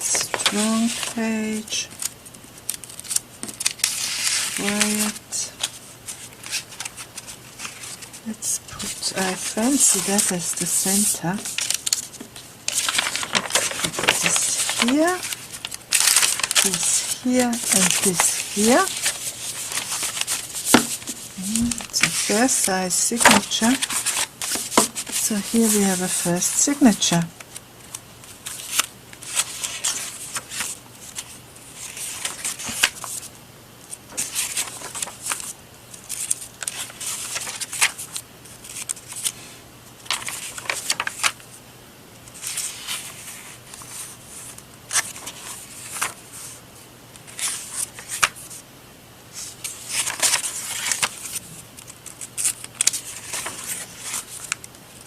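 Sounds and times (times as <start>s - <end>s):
paper rustling and sliding: 0.0s - 26.8s, 28.3s - 33.3s, 34.0s - 39.4s, 40.0s - 41.4s, 42.3s - 46.6s, 47.3s - 48.6s, 49.3s - 54.6s.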